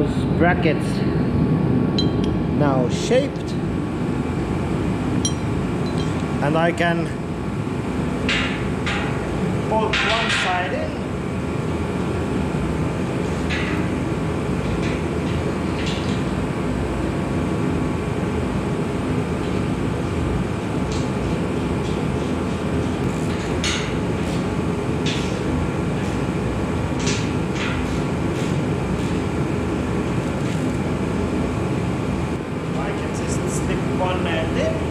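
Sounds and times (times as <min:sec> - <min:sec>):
workshop rumble: 0:00.0 - 0:34.9.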